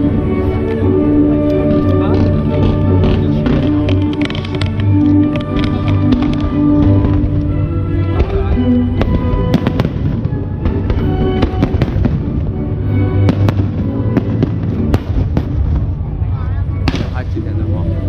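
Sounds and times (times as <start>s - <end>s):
loud show music: 0.0s - 15.9s
fireworks bangs: 1.5s - 17.5s.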